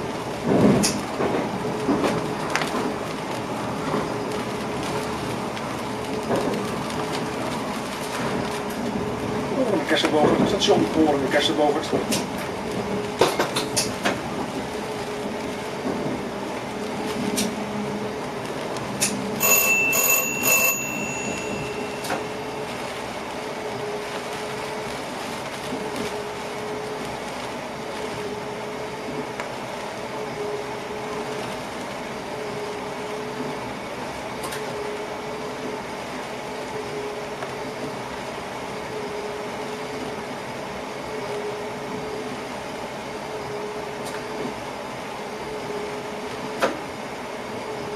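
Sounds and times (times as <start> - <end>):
train running hum: 0.0 - 47.9.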